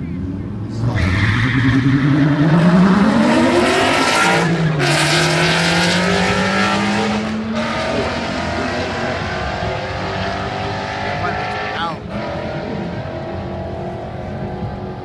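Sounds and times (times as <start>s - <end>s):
cars accelerating hard: 0.0s - 15.0s.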